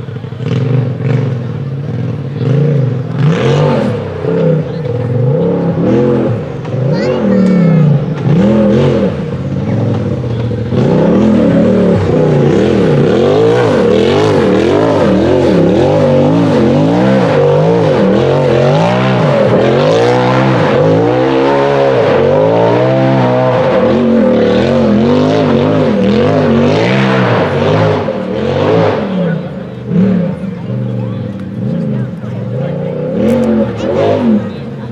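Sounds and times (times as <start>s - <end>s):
buggy engine revving: 0.0s - 34.9s.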